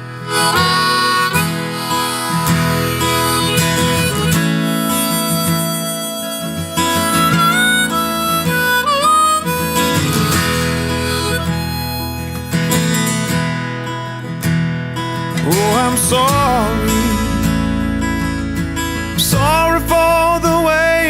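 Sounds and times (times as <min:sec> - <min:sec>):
harmonica melody: 0:00.0 - 0:21.0
strummed acoustic guitar: 0:00.0 - 0:21.0.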